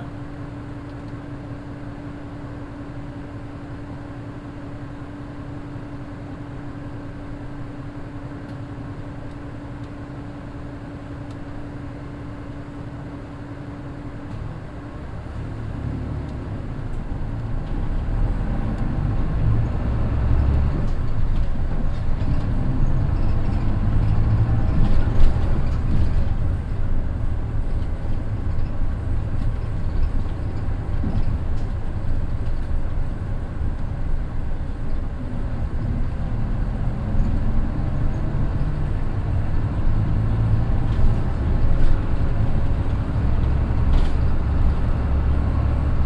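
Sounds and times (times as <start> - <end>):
bus pulling away: 0.0 - 46.0
diesel bus engine idling: 0.0 - 46.0.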